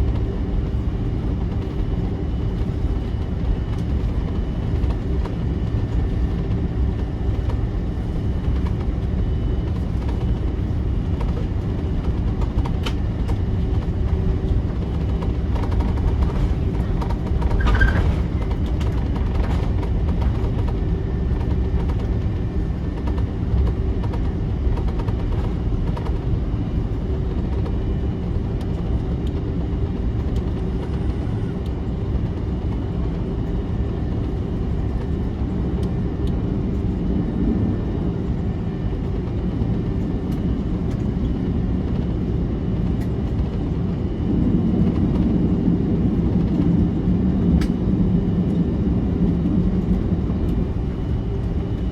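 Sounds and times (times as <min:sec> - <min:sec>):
airliner cabin engine drone: 0:00.0 - 0:51.9.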